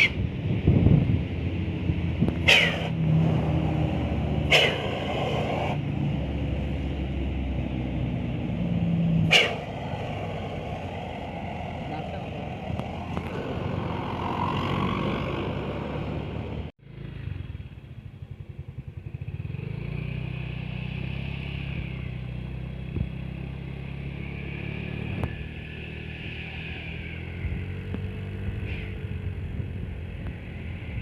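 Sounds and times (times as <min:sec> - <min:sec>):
engine humming: 0:00.0 - 0:31.0
passing vehicles: 0:00.0 - 0:31.0.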